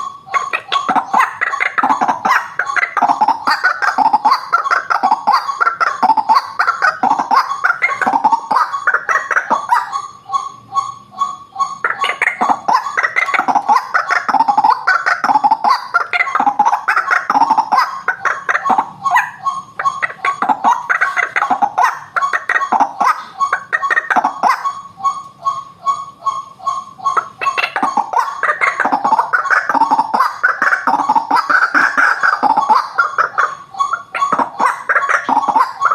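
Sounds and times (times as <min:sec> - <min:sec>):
waterhens croaking: 0:00.0 - 0:35.9.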